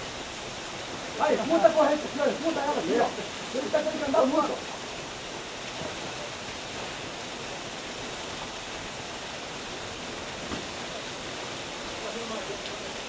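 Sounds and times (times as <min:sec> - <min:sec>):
fast-flowing river rushing: 0:00.0 - 0:13.0.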